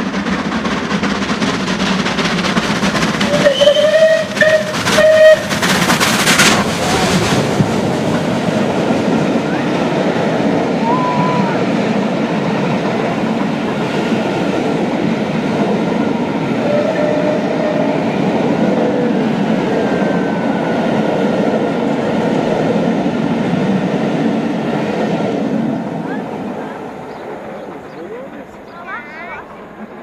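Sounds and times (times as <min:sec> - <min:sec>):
train wheels clattering over rails: 0:00.0 - 0:30.0.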